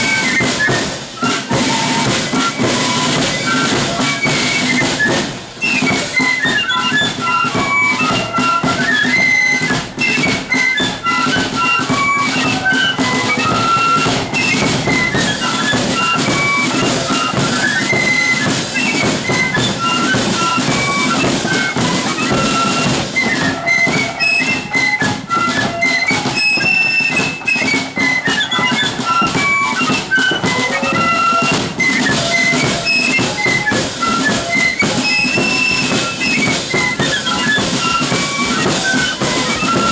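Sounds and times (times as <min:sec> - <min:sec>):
flutes playing a high melody: 0:00.0 - 0:39.9
snare and bass drums: 0:00.0 - 0:39.9.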